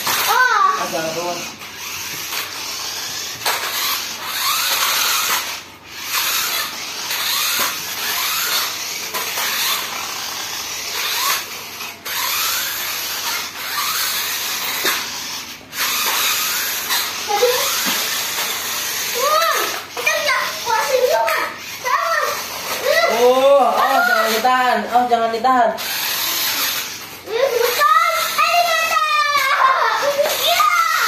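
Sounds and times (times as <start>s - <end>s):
toy car electric motors whirring: 0.0s - 31.0s.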